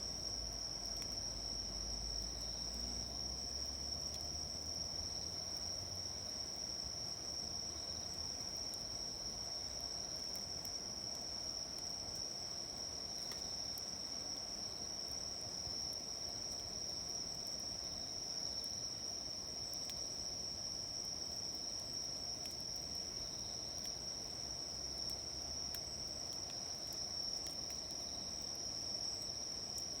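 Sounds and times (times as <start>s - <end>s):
insects trilling: 0.1s - 30.0s.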